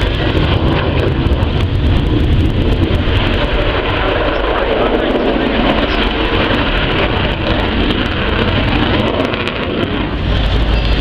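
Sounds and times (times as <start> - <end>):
aircraft engine rushing: 0.0 - 11.0.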